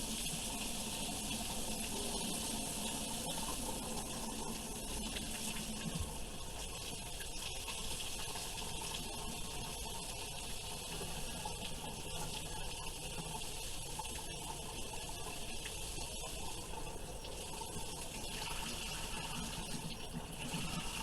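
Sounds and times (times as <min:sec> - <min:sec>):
faucet water running: 0:00.0 - 0:21.0.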